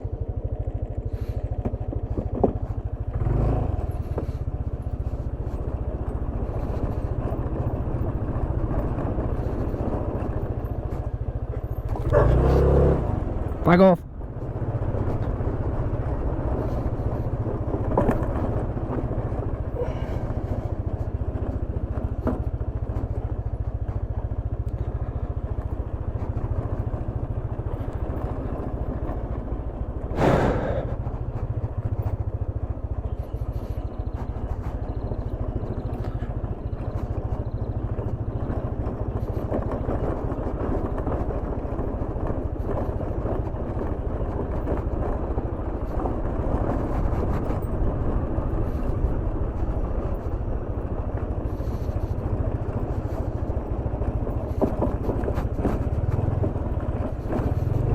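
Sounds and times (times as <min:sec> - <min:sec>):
motorcycle engine: 0:00.0 - 0:57.9
road noise: 0:00.0 - 0:57.9
wind rumble on microphone: 0:00.0 - 0:57.9.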